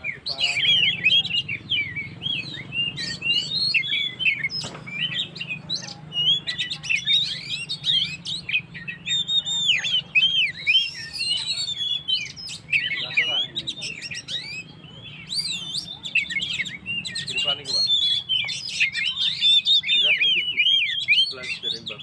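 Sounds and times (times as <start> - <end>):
bird singing chirps and whistles: 0.0 - 22.0.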